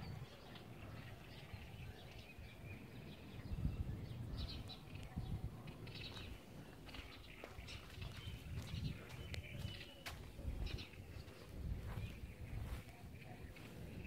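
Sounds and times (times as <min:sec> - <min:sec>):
faint bird chirps: 0:00.0 - 0:14.0
wind buffeting microphone: 0:00.0 - 0:14.0.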